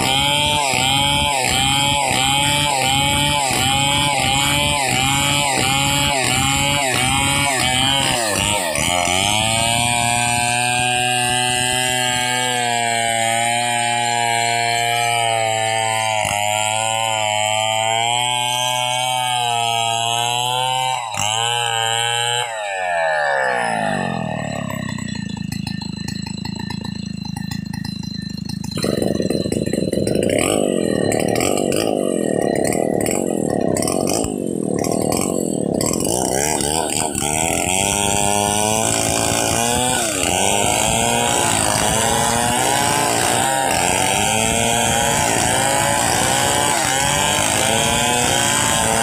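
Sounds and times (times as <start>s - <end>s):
chainsaw cutting through log: 0.0s - 49.0s.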